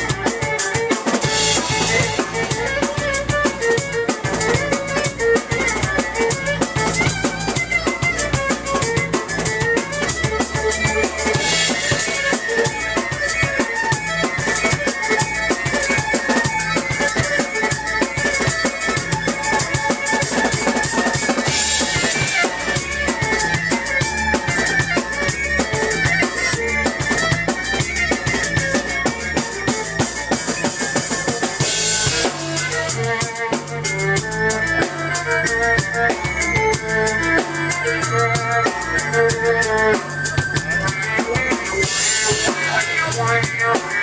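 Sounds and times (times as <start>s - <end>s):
bass drum and snare: 0.0s - 44.0s
electronic rock band playing: 0.0s - 44.0s
held violin notes: 0.0s - 44.0s
keyboard bass line: 0.0s - 44.0s.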